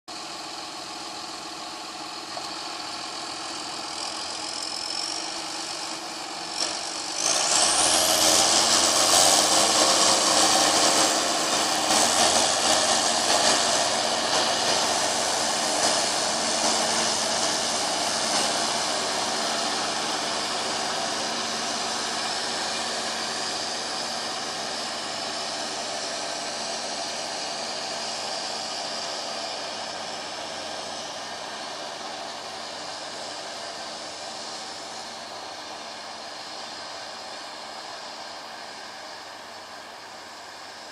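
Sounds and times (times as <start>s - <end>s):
tractor diesel engine running: 0.1s - 40.9s
high rising whine: 0.3s - 40.9s.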